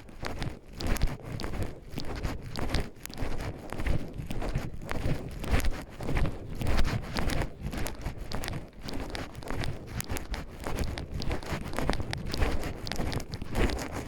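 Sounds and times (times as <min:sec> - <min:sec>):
footsteps on forest trail: 0:00.0 - 0:14.0.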